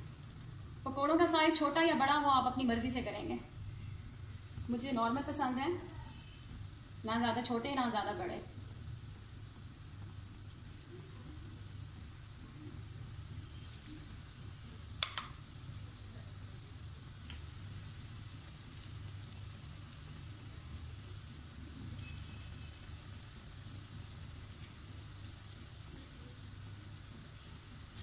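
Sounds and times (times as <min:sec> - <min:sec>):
deep-frying sizzle in oil: 0:00.0 - 0:28.0.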